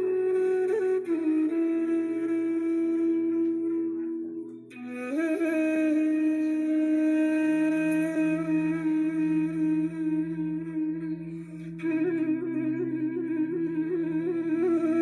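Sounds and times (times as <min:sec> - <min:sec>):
flute-like held note: 0:00.0 - 0:15.0.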